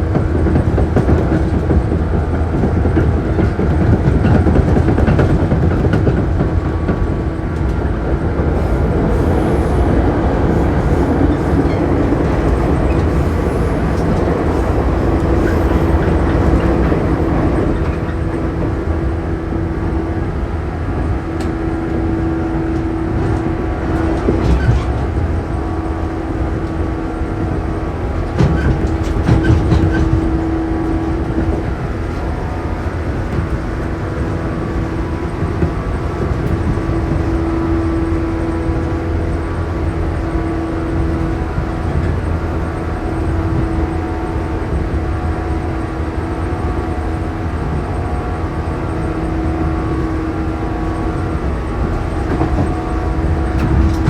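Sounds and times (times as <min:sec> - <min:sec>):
rail-joint clicks: 0:00.0 - 0:20.0, 0:21.0 - 0:54.0
train wheels rumbling on rail: 0:00.0 - 0:54.0.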